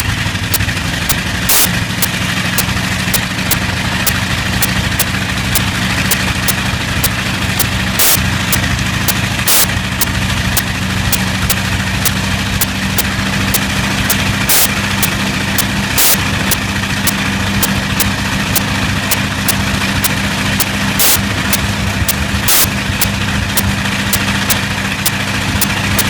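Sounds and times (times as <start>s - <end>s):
engine misfire pops: 0.0s - 26.0s
radial aero engine running: 0.0s - 26.0s.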